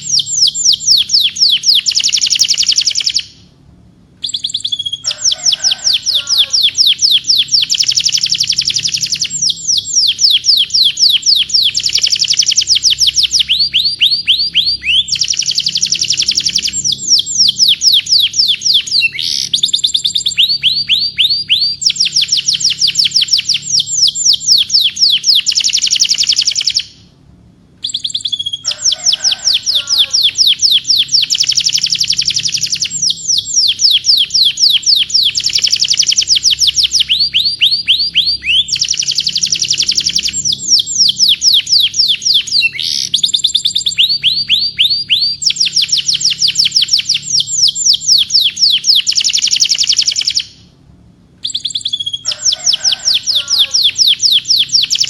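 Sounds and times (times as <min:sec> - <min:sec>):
canary singing trills: 0:00.0 - 0:03.6, 0:04.2 - 0:27.1, 0:27.8 - 0:50.7, 0:51.4 - 0:55.0.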